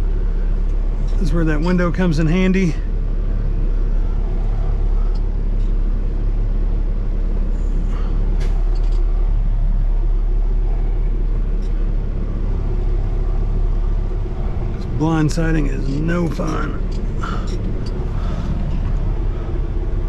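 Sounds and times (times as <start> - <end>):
diesel engine low rumble: 0.0 - 20.0.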